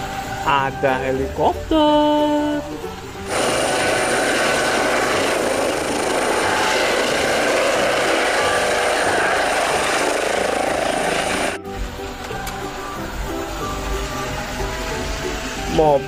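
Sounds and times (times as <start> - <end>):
thin high whine: 0.0 - 16.0
helicopter turbine and rotor noise: 3.1 - 16.0.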